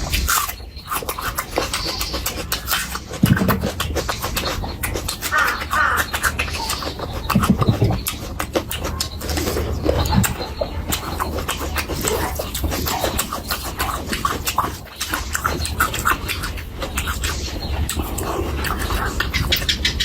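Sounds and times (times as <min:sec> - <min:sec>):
mouth clicks: 0:00.0 - 0:20.0
wet chewing and lip smacking: 0:00.0 - 0:20.0.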